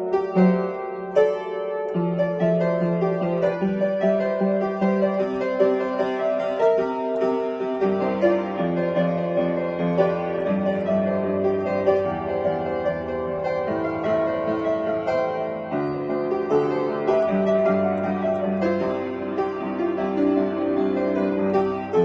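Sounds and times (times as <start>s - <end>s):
piano melody over chords: 0.0s - 22.0s.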